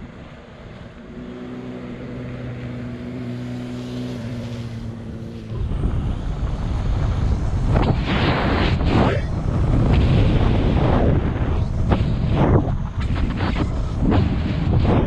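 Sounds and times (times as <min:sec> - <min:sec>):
vehicle engine humming: 0:00.0 - 0:15.0
wind buffeting microphone: 0:00.0 - 0:15.0.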